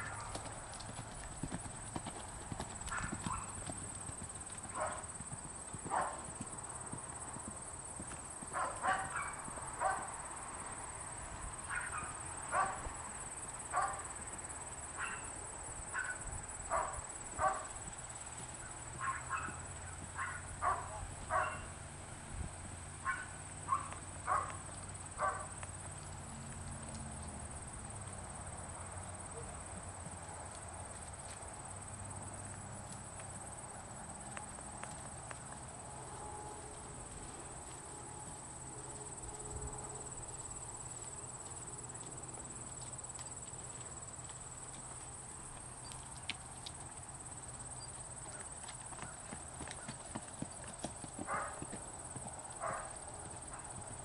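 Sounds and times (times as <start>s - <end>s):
horse hoofbeats on grass: 0.0s - 10.2s, 15.9s - 54.0s
crickets chirping: 0.0s - 54.0s.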